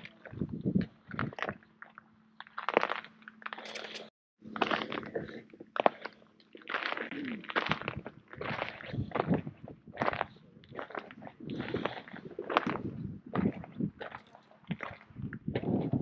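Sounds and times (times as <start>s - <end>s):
crunching and scraping: 0.0s - 16.0s.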